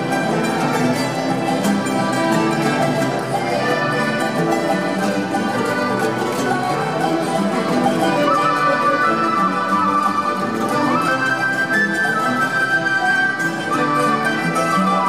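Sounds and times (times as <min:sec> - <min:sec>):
string ensemble with acoustic guitars: 0:00.0 - 0:15.0.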